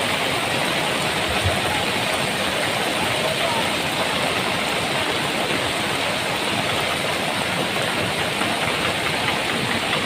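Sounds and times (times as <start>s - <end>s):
rushing floodwater: 0.0s - 10.0s.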